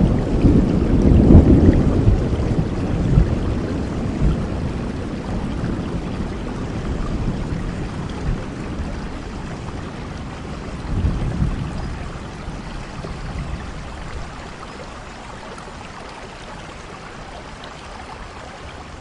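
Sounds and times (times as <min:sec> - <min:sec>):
low rumble of thunder: 0:00.0 - 0:17.9
steady rain falling: 0:00.0 - 0:19.0.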